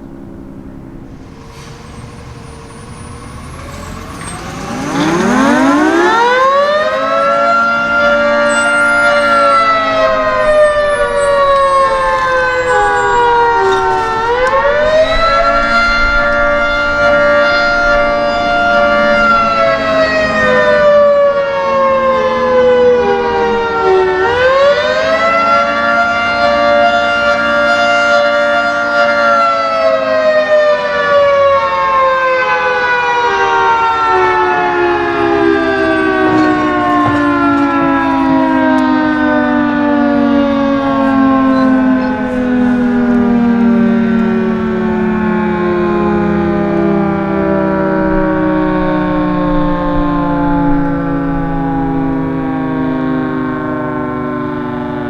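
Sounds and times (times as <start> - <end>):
fire siren wailing: 0.0 - 55.0.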